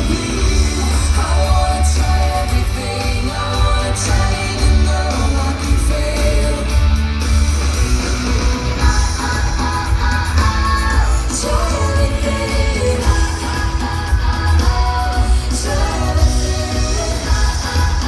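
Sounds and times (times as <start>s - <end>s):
person singing: 0.0s - 7.4s, 8.6s - 18.0s
loud music with heavy bass: 0.0s - 18.0s.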